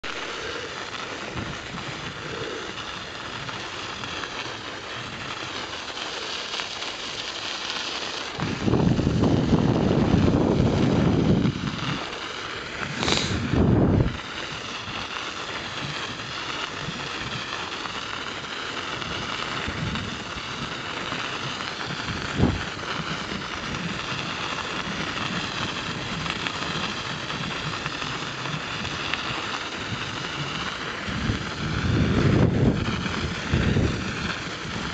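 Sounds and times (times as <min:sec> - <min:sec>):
wind rumbling on microphone: 0:00.0 - 0:07.4, 0:08.2 - 0:34.9
bicycle tyres hissing over snow: 0:00.0 - 0:34.9.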